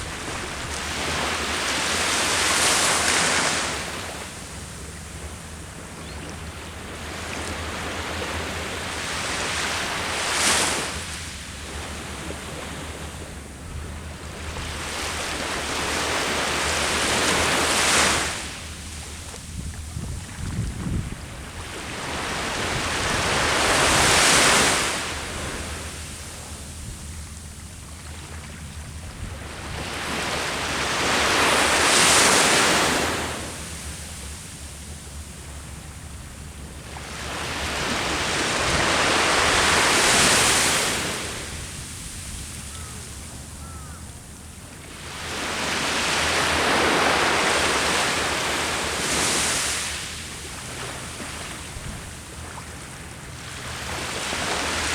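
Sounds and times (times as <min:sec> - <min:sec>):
wind rumble on microphone: 0:00.0 - 0:04.0, 0:05.2 - 0:34.2, 0:36.9 - 0:44.4, 0:50.4 - 0:54.9
sea waves breaking on shore: 0:00.0 - 0:54.9.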